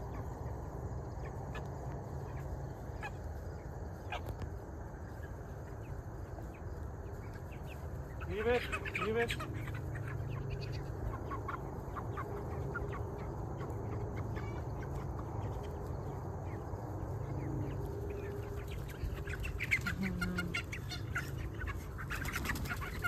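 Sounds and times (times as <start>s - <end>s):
chickens clucking and peeping: 0.0s - 23.0s.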